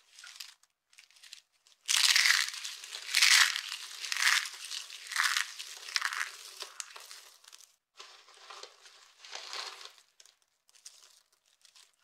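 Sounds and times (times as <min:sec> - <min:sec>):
soap shavings crunching: 0:00.2 - 0:07.7, 0:09.5 - 0:12.0.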